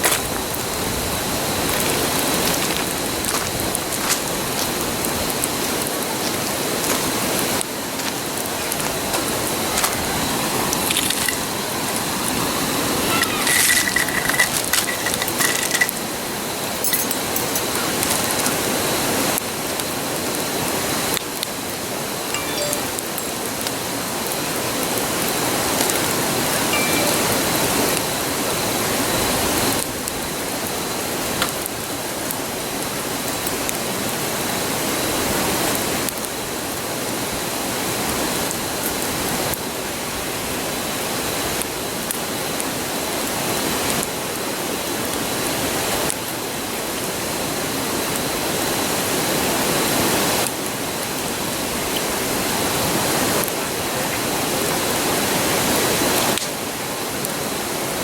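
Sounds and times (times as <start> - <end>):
campfire crackles: 0.0 - 22.6, 23.2 - 49.7.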